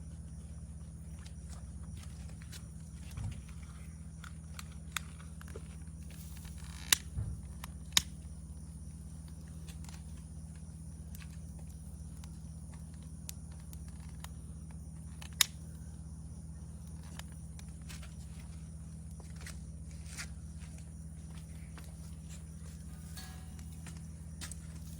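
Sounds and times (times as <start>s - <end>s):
chirring insects: 0.0s - 24.9s
low steady hum: 0.0s - 24.9s.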